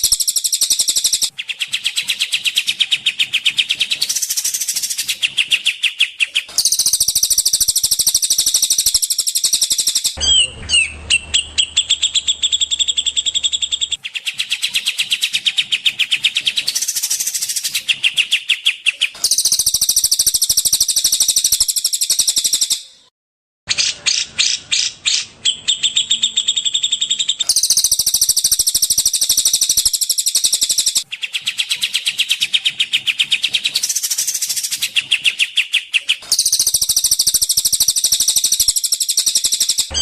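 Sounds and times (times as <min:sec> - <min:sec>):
songbird chirping trills: 0:00.0 - 0:23.1, 0:23.7 - 0:40.0.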